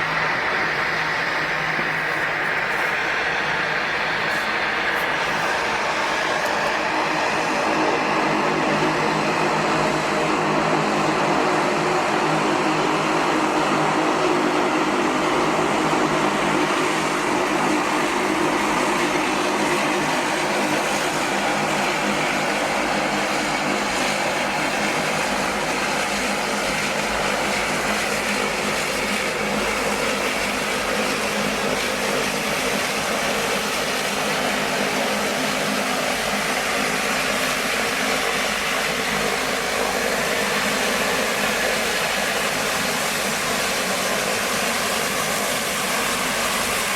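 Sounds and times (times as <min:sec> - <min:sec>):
aircraft engines running: 0:00.0 - 0:46.9.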